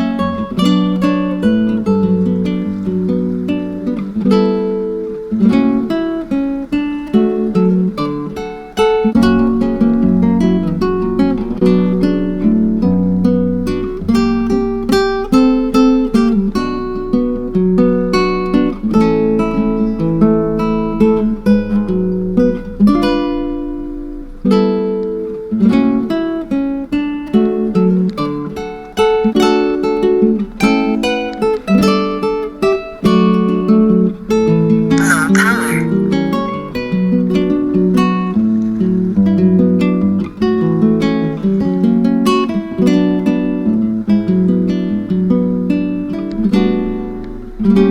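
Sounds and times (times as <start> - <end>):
acoustic guitar plucked notes: 0.0 - 47.9.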